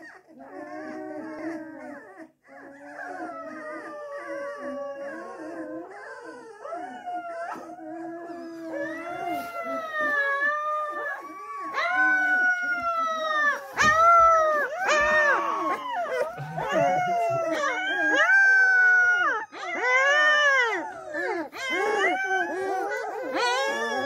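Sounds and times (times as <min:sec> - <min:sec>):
puppies howling: 0:00.0 - 0:24.0.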